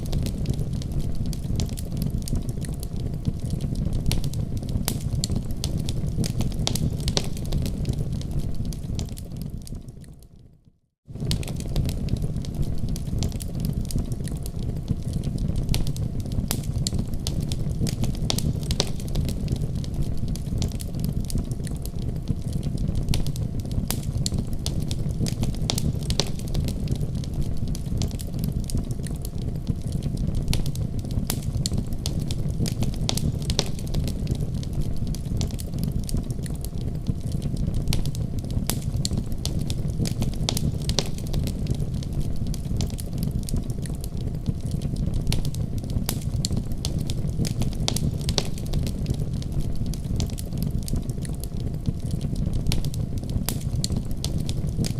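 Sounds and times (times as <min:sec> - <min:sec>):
fireplace crackling: 0:00.0 - 0:10.2, 0:11.2 - 0:54.9
low rumble of fire: 0:00.0 - 0:54.9.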